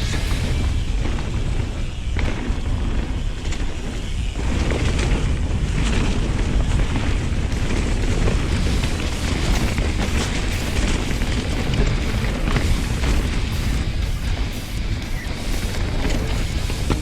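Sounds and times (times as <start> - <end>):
bike rattles and clicks: 0.0 - 17.0
wind buffeting microphone: 0.0 - 17.0.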